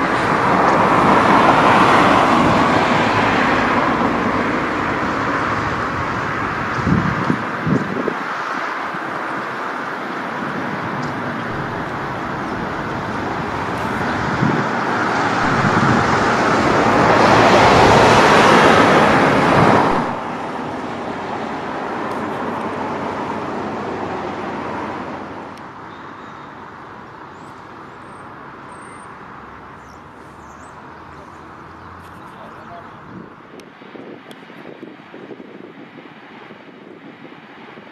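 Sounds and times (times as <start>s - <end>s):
jet engines taxiing: 0.0s - 37.9s.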